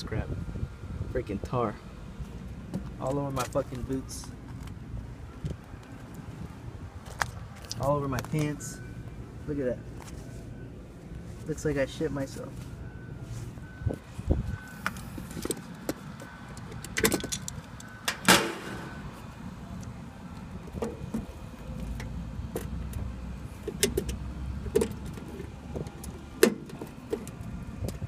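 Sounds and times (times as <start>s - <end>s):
steady low rumble: 0.0s - 26.4s.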